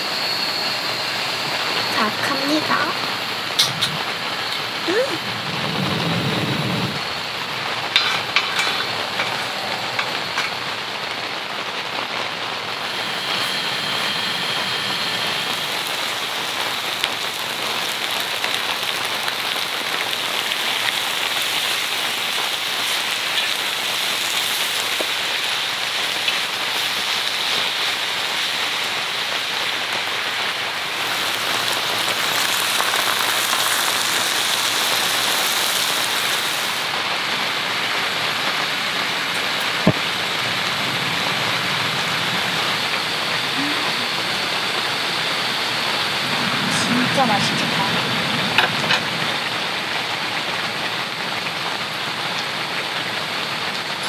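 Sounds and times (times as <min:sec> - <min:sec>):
meat sizzling on a griddle: 0:00.0 - 0:54.0
rain on a tent: 0:00.0 - 0:54.0.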